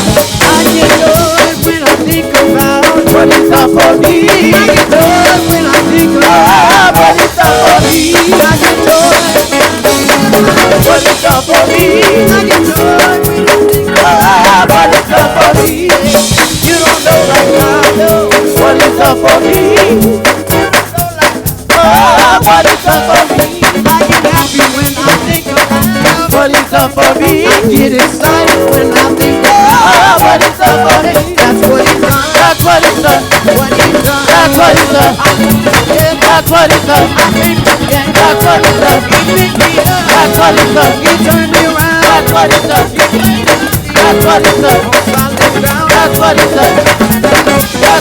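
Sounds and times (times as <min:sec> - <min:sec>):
drum kit beat: 0:00.0 - 0:48.0
gospel band with singers: 0:00.0 - 0:48.0
sustained keyboard chords: 0:00.0 - 0:48.0.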